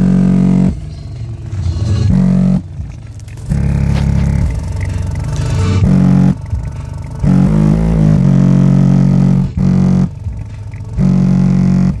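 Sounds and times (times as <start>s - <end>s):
bass-heavy music from subwoofers: 0.0s - 12.0s.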